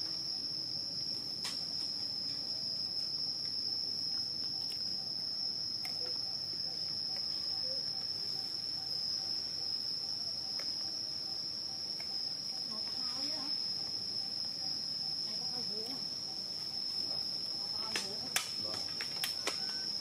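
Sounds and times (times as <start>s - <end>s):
insect high-pitched drone: 0.0s - 20.0s.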